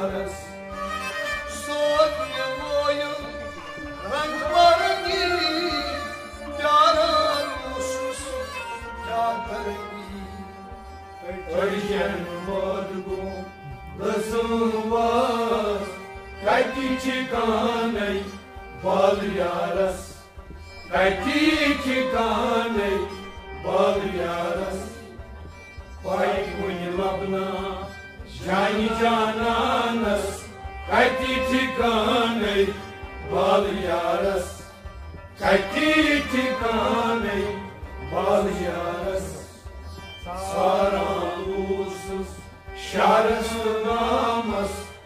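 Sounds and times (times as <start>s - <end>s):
man singing: 0.0s - 0.7s, 1.3s - 20.2s, 20.9s - 25.1s, 26.0s - 34.7s, 35.4s - 45.0s
harmonium: 0.0s - 45.0s
plucked string instruments: 0.0s - 45.0s.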